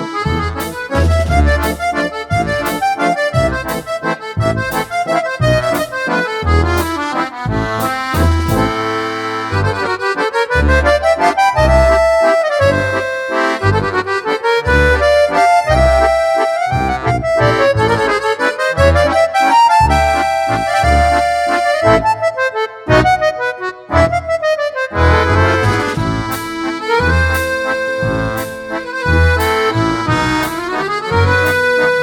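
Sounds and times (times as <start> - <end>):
accordion music: 0.0 - 32.0.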